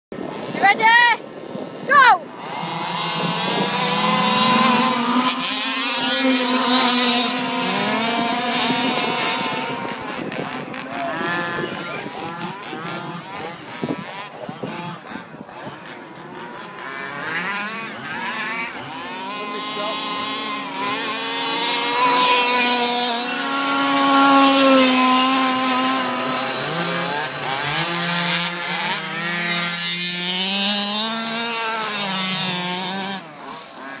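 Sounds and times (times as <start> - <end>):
model car motors buzzing: 0.2 - 34.0.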